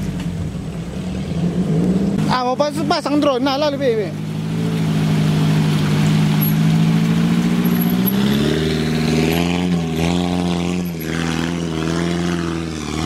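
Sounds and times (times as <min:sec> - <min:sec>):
engine pulling hard: 0:00.0 - 0:13.0
water splashing from tyres: 0:00.0 - 0:13.0.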